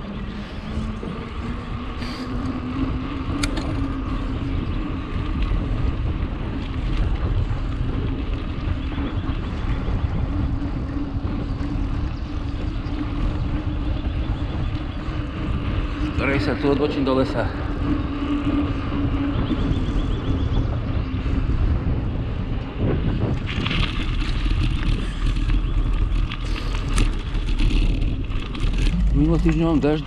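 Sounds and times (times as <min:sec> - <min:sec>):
bicycle tyre hum: 0:00.0 - 0:30.0
wind rushing over microphone: 0:00.0 - 0:30.0.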